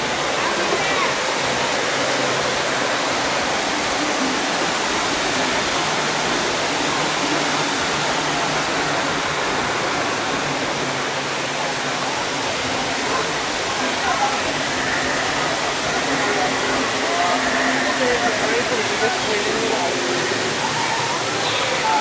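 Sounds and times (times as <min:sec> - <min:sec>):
waterfall splashing down rocks: 0:00.0 - 0:22.0.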